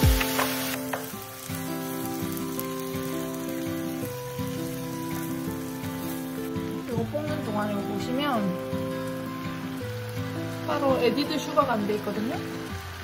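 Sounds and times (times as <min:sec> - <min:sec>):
background music with held notes: 0:00.0 - 0:13.0
food sizzling in a skillet: 0:00.0 - 0:13.0.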